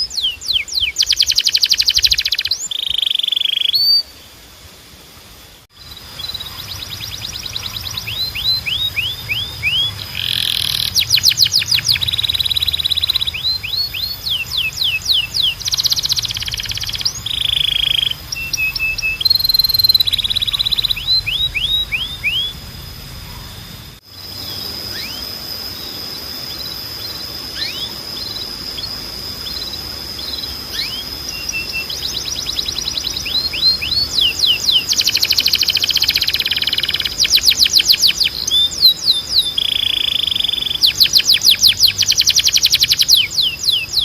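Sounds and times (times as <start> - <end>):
canary singing trills: 0.0 - 4.4, 5.7 - 44.0
steady high tone: 5.6 - 44.0.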